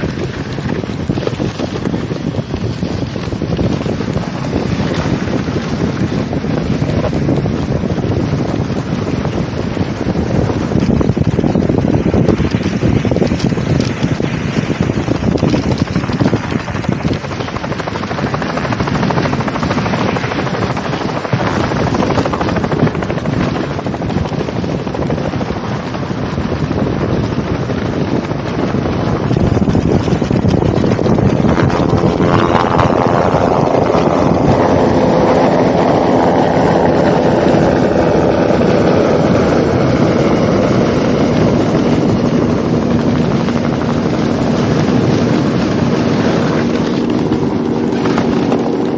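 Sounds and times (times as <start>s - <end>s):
aircraft engine: 0.0s - 48.9s
wind on microphone: 0.0s - 48.9s.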